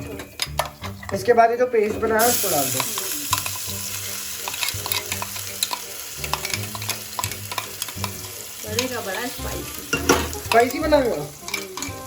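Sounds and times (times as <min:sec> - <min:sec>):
spoon scraping a pan: 0:01.9 - 0:12.0
paste sizzling in hot oil: 0:02.1 - 0:12.0.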